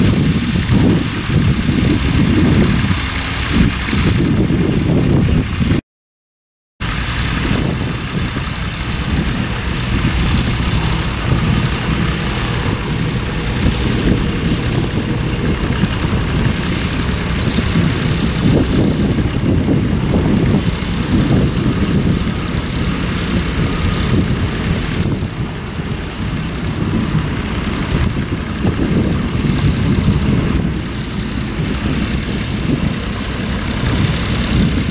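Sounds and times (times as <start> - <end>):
tractor engine running: 0.0 - 5.8, 6.8 - 34.9.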